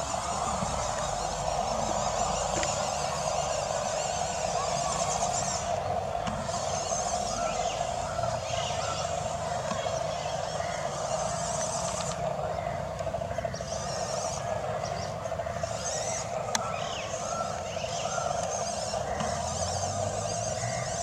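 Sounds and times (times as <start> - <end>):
toy truck motor whining: 0.0 - 12.4, 13.0 - 21.0
birds calling: 0.0 - 21.0.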